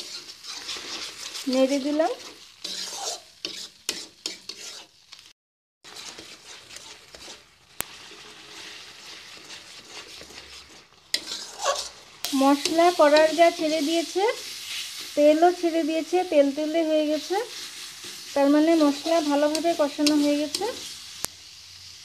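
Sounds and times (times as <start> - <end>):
metal spatula scraping and stirring: 0.0 - 15.8, 16.6 - 21.2
paste sizzling in hot oil: 0.0 - 22.0.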